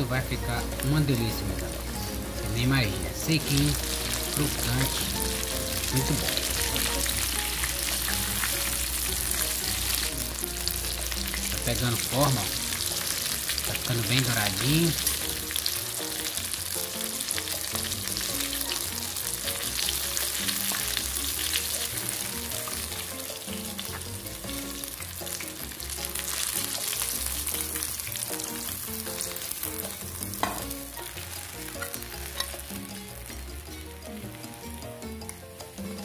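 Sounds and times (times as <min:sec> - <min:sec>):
faint background music: 0:00.0 - 0:36.0
fish fillets sizzling in oil: 0:00.0 - 0:36.0.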